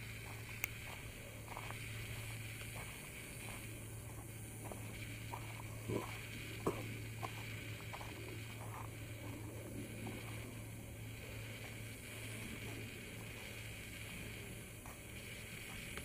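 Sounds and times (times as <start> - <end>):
footsteps crunching on gravel: 0.0 - 16.0
low hum and hiss: 0.0 - 16.0.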